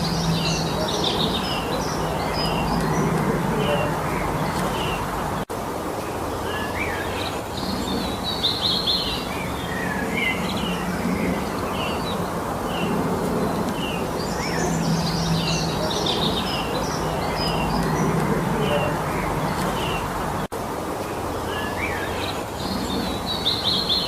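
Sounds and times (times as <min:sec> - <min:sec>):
songbirds chirping and trilling: 0:00.0 - 0:24.0
steady noisy background: 0:00.0 - 0:24.0.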